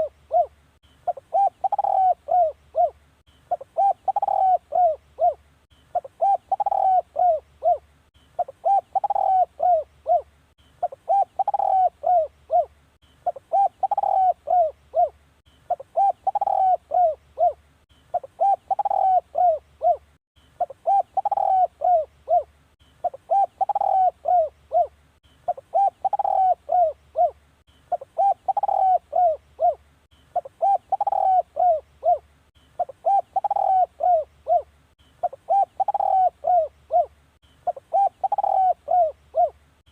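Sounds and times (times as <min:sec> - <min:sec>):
dove cooing: 0:00.0 - 0:39.6.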